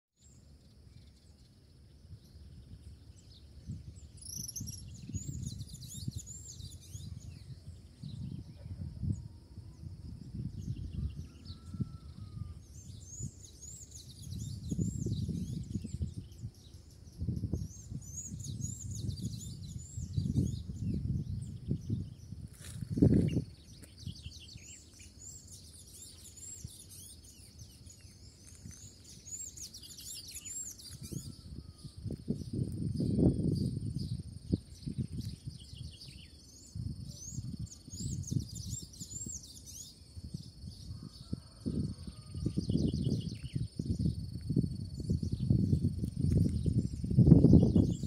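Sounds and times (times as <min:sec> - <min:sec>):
small birds chirping: 0:00.2 - 0:11.9, 0:12.8 - 0:41.6
wind rumble on microphone: 0:00.2 - 0:48.0.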